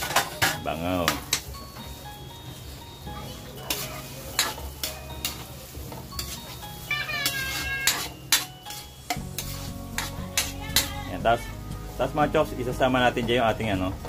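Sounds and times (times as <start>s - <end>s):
metal spatula scraping wok: 0.0s - 12.4s
light sizzle: 0.0s - 14.0s.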